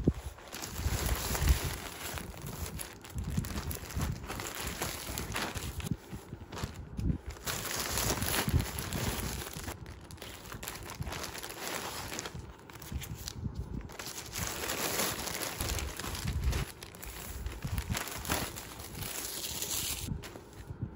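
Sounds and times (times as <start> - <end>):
plastic bags crinkling: 0.0 - 20.5.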